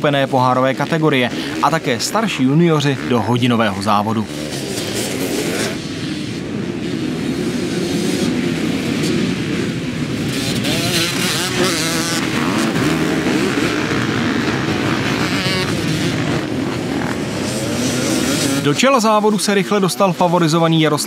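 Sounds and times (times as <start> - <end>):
motorcycle engines din: 0.0 - 21.0
motorcycle revving past: 0.9 - 18.8.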